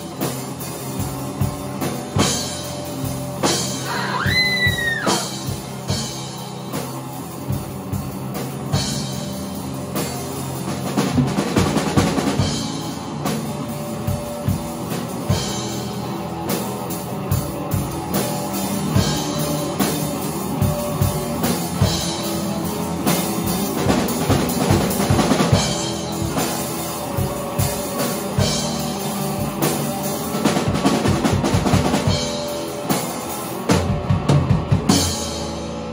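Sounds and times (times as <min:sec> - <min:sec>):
rock band playing live: 0:00.0 - 0:35.9.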